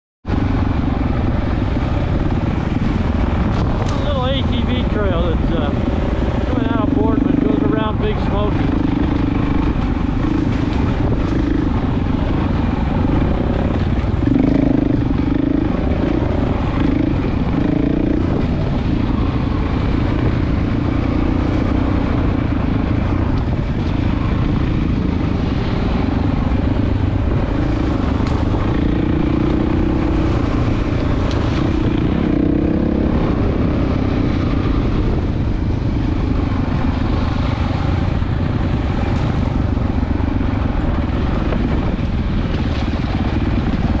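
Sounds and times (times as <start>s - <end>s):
off-road vehicle engine: 0.2s - 44.0s.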